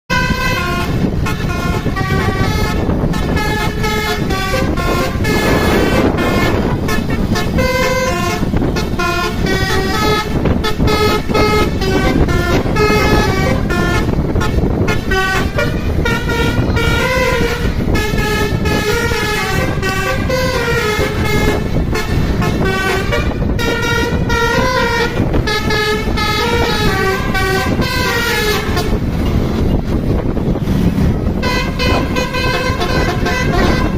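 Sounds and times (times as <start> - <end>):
low rumble: 0.1 - 33.9
musical bus horn melody: 0.1 - 33.9.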